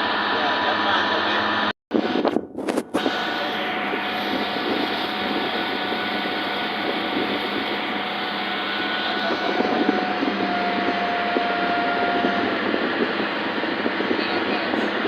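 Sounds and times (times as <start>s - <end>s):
boat motor running: 0.0s - 15.0s
steady whine: 0.0s - 15.0s.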